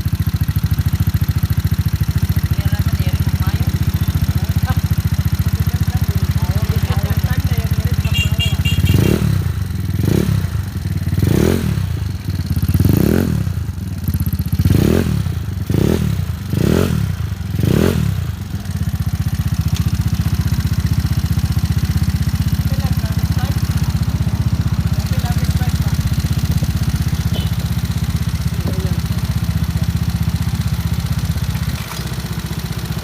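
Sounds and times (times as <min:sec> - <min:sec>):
scooter engine idling and revving: 0:00.0 - 0:33.0.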